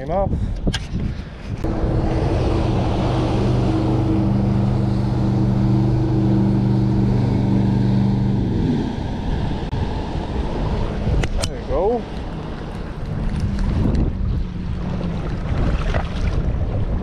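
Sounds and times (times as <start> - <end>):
wind: 0.0 - 17.0
water noise: 0.8 - 17.0
boat motor humming: 1.6 - 17.0.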